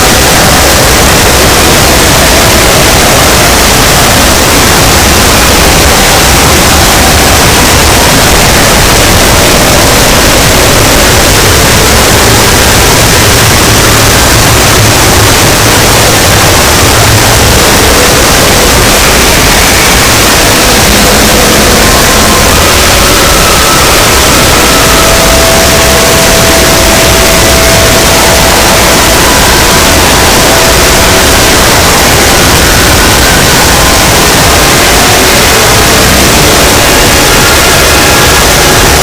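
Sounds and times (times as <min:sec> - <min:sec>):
loud distorted static noise: 0:00.0 - 0:39.0.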